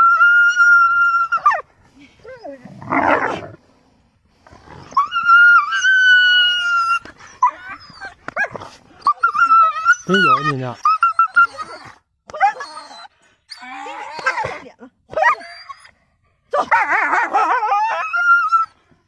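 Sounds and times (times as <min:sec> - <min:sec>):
wolf whining: 0:00.0 - 0:03.6, 0:04.5 - 0:18.8.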